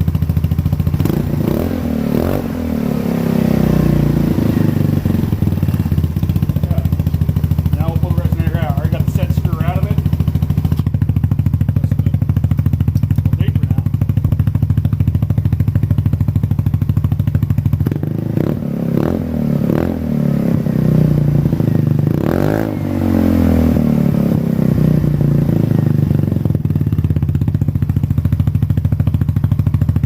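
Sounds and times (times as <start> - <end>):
engine idling and revving: 0.0 - 30.0.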